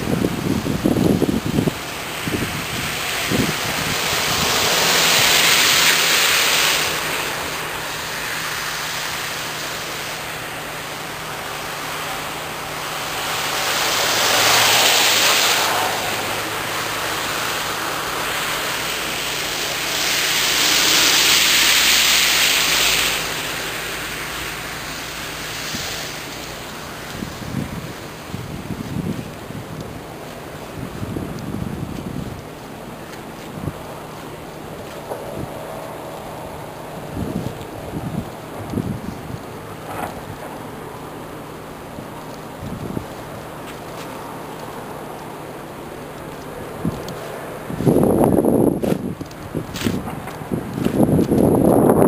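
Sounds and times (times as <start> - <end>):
wind rushing: 0.0 - 40.8, 46.6 - 52.0
tyres hissing on slush: 0.0 - 52.0.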